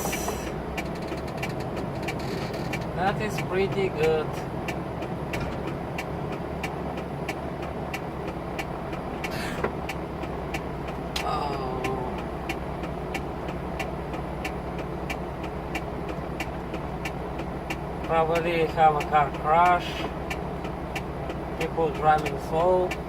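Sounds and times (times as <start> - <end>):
diesel engine hum: 0.0 - 23.0
hazard light relay ticking: 0.0 - 23.0.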